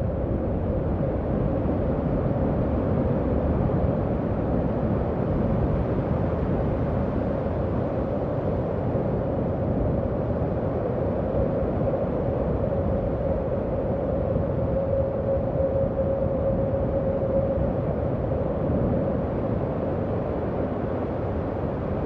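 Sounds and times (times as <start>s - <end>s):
howling wind: 0.0s - 22.0s.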